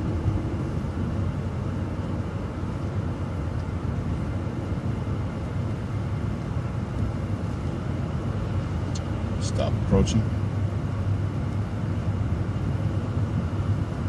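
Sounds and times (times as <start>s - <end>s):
bus engine and road noise: 0.0s - 14.0s.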